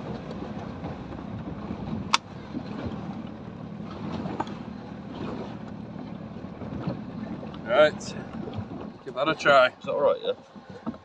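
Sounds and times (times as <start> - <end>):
water washing against hull: 0.0 - 11.0.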